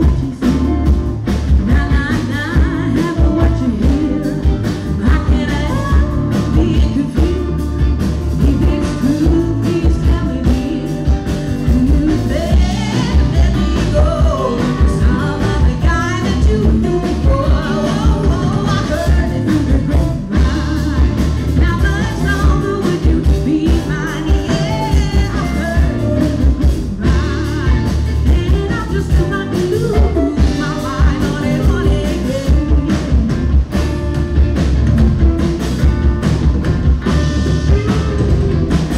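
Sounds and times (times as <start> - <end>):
drums: 0.0 - 38.9
electric guitars: 0.0 - 38.9
woman singing lead: 0.0 - 38.9.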